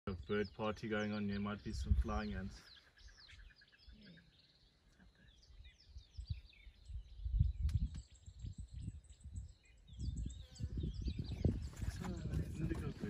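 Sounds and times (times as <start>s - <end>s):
small birds chirping and twittering: 0.1s - 13.0s.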